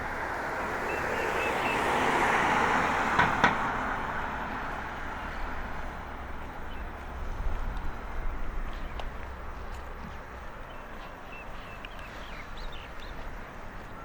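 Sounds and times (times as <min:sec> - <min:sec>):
vehicle passing road noise: 0:00.0 - 0:14.0.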